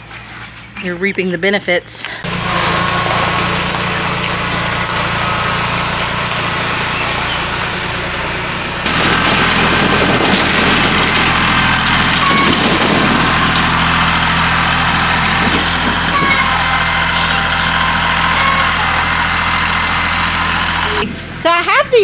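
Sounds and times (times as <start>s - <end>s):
engine running steadily: 2.0s - 22.0s.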